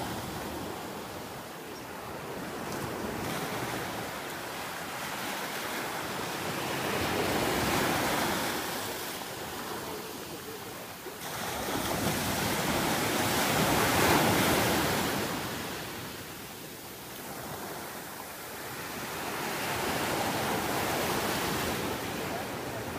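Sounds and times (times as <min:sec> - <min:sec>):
small waves breaking on sand: 0:00.0 - 0:22.9.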